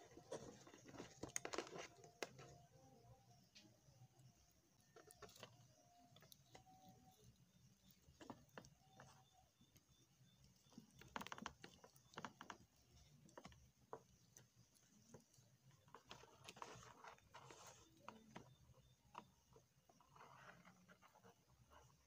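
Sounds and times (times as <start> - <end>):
faint handling clicks and scratching: 0.0 - 22.0.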